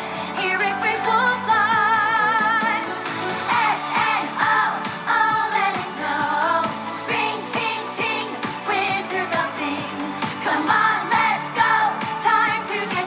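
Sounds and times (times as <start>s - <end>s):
pop song with singing: 0.0s - 13.0s.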